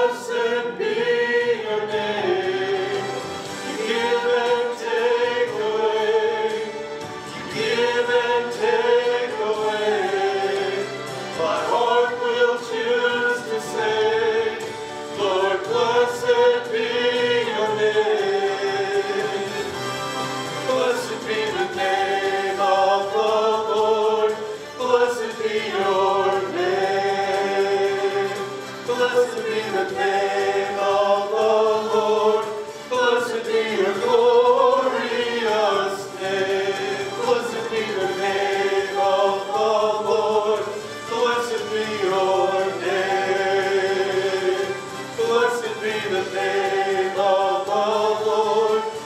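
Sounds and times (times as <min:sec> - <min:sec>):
group singing worship song: 0:00.0 - 0:49.0.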